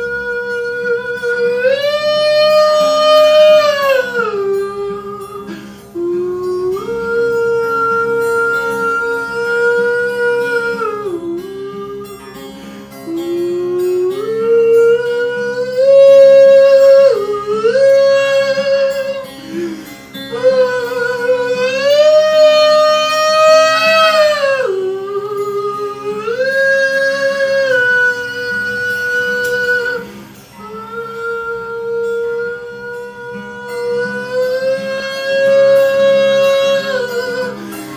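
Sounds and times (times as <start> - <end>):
acoustic guitar: 0.0 - 37.9
man singing wordless notes: 0.0 - 37.9.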